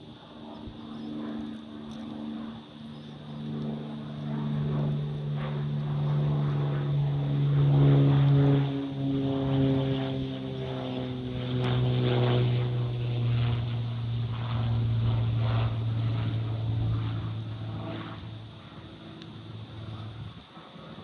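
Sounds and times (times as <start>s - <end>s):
propeller aircraft engine drone: 0.0s - 21.0s.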